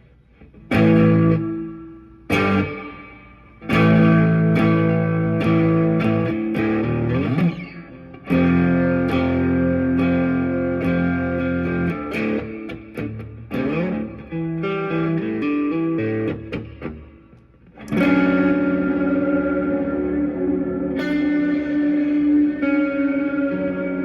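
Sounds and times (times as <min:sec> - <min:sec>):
electric guitar with effects: 0:00.0 - 0:24.0.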